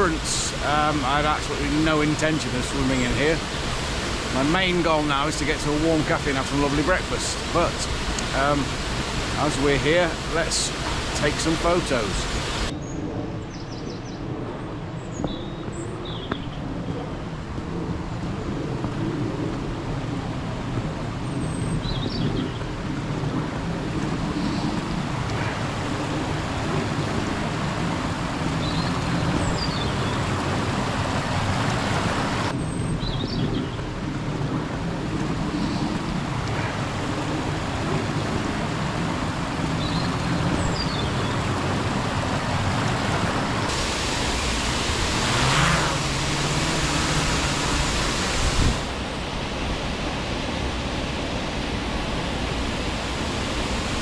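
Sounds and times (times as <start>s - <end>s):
waterfall roaring: 0.0s - 12.7s, 17.3s - 54.0s.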